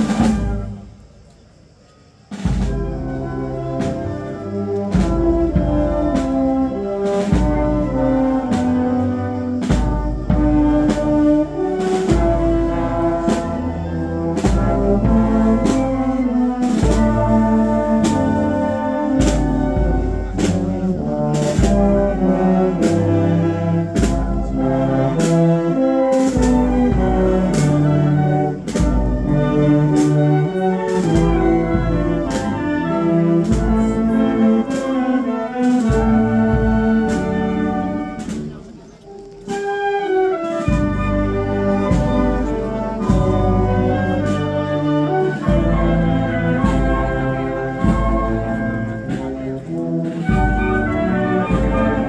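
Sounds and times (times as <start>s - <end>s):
trumpets and trombones playing: 0.0s - 1.0s, 2.3s - 52.0s.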